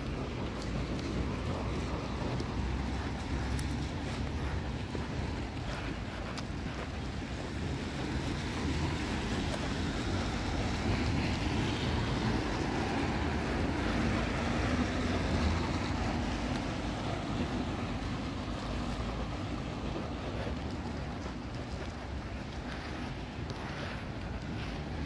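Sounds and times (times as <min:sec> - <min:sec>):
low rumble of traffic: 0:00.0 - 0:25.0.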